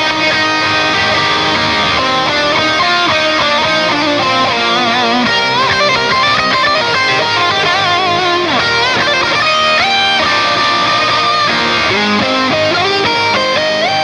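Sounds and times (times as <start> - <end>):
band backing: 0.0 - 14.0
electric guitar lead: 0.0 - 14.0.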